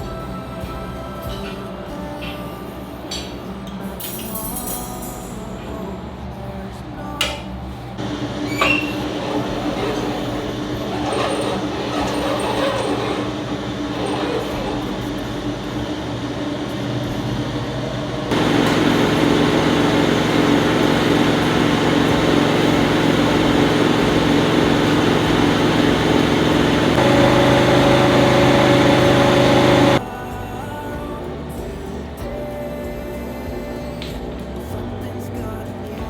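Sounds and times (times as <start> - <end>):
machine humming with low whine: 5.9 - 36.0.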